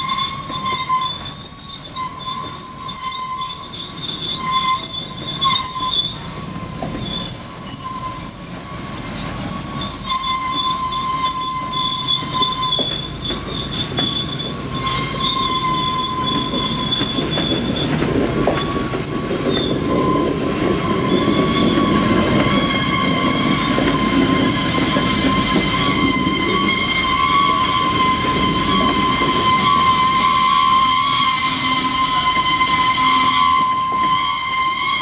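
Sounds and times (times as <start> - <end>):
train wheels squealing on rails: 0.0 - 35.0.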